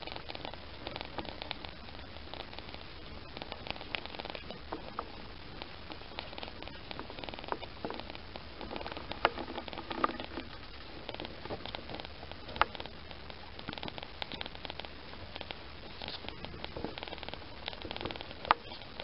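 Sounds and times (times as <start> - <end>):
kittens purring: 0.0 - 19.0.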